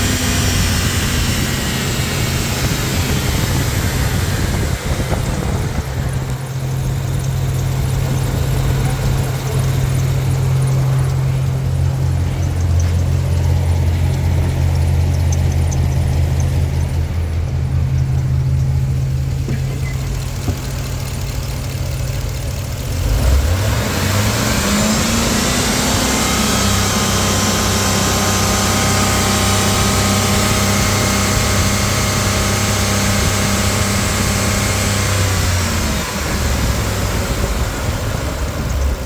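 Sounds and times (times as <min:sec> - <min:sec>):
engine idling and revving: 0:00.0 - 0:39.0.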